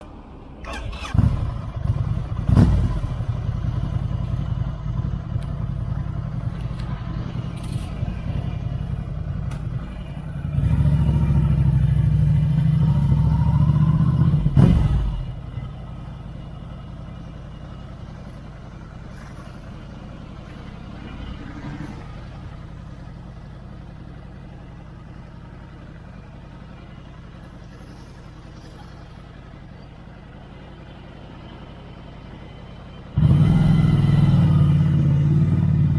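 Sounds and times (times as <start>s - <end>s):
motorcycle engine revving and idling: 0.0s - 35.9s.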